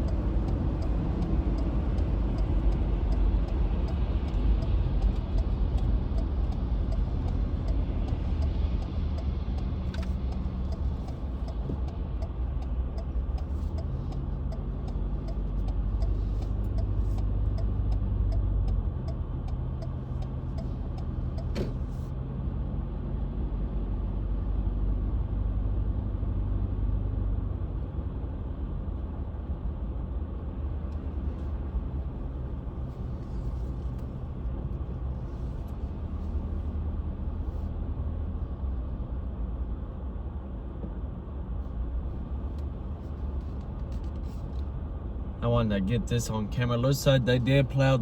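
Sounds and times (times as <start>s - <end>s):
car interior driving rumble: 0.0s - 48.0s.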